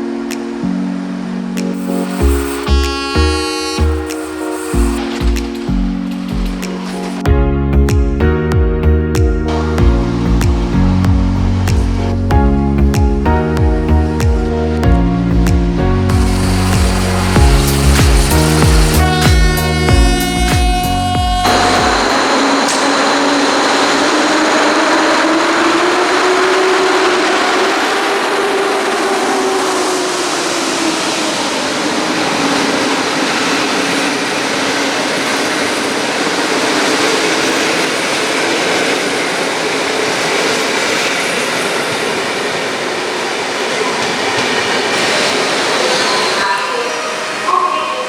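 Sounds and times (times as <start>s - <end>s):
train rolling noise: 0.0s - 7.9s, 9.4s - 48.0s
locomotive humming tone: 0.9s - 7.3s, 9.5s - 48.0s.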